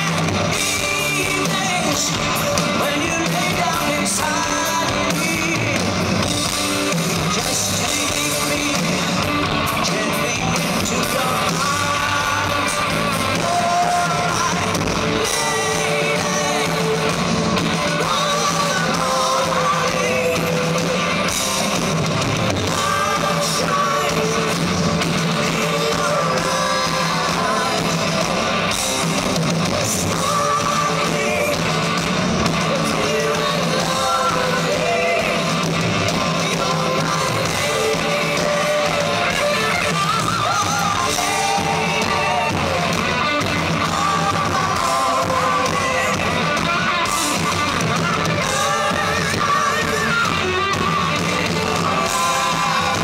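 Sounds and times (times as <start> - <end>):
bass guitar: 0.0 - 53.0
drums: 0.0 - 53.0
electric guitars: 0.0 - 53.0
man singing lead: 0.0 - 53.0.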